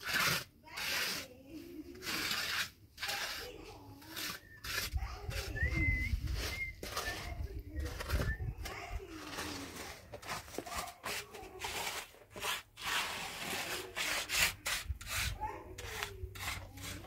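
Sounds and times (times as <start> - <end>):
rough scraping strokes: 0.0 - 17.0.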